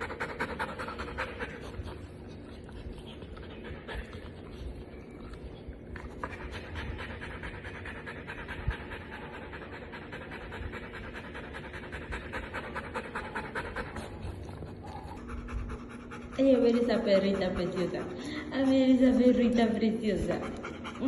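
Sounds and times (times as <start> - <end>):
dog panting: 0.0 - 21.0.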